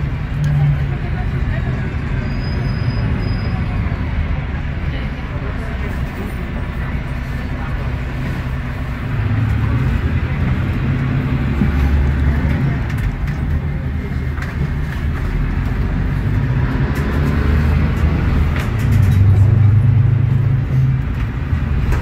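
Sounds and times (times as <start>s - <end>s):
bus diesel engine driving: 0.0s - 22.0s.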